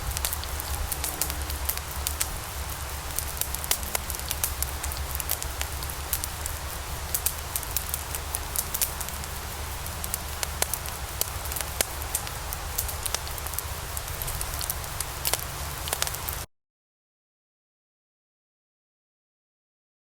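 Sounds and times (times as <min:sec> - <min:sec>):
logs crackling in a fireplace: 0:00.0 - 0:16.5.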